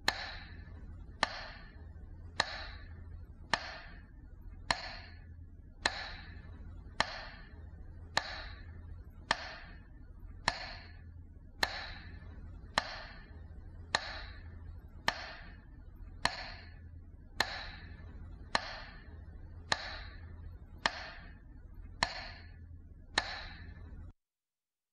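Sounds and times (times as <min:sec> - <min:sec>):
metronome ticking: 0:00.0 - 0:04.1, 0:05.8 - 0:11.0, 0:11.6 - 0:23.9
faint low hum: 0:00.0 - 0:24.2.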